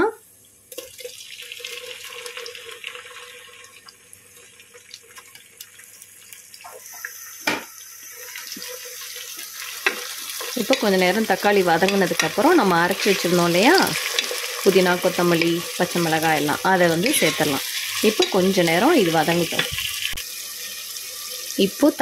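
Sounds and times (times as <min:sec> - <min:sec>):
onions sizzling in oil: 0:00.7 - 0:22.0.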